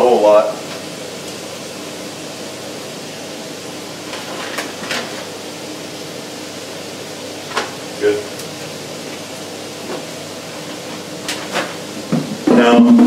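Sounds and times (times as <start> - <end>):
faint hum: 0.0 - 13.0
fan-like hiss: 0.0 - 13.0.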